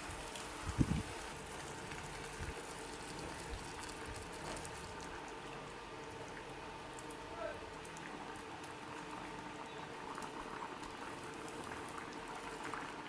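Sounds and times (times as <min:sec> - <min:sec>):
liquid bubbling in a pot: 0:00.0 - 0:13.0.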